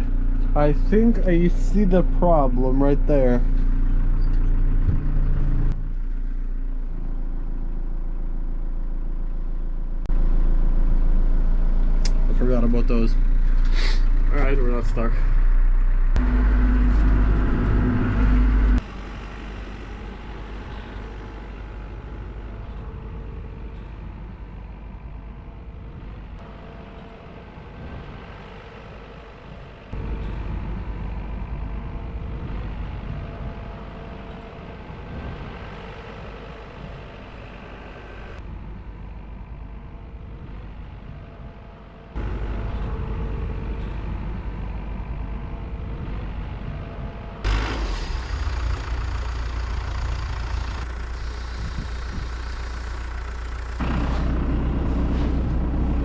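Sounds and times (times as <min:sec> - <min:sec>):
diesel loader engine running: 0:00.0 - 0:56.0.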